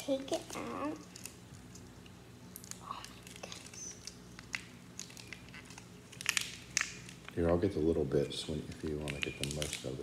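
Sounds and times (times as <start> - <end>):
plastic wrapper crinkling: 0.0 - 7.7, 8.4 - 10.0
low steady hum: 0.0 - 10.0.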